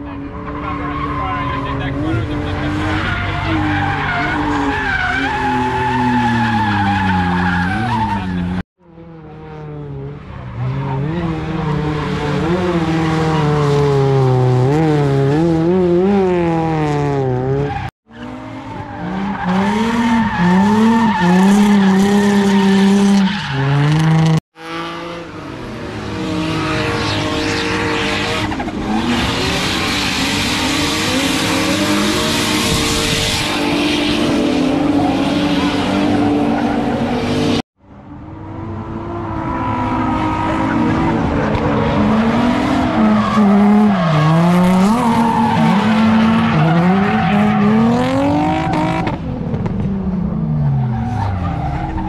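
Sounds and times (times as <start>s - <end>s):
engines revving: 0.0s - 37.6s, 38.3s - 52.0s.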